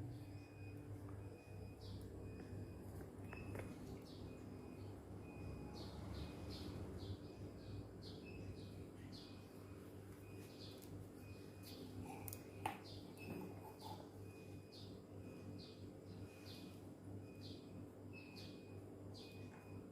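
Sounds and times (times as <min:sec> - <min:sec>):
small birds chirping: 0:00.0 - 0:19.8
steady low hum: 0:00.0 - 0:19.9.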